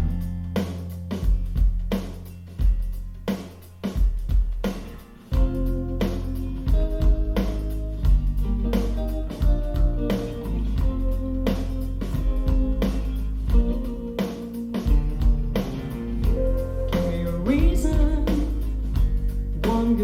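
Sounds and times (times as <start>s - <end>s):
song with guitar bass and drums: 0.0s - 20.0s.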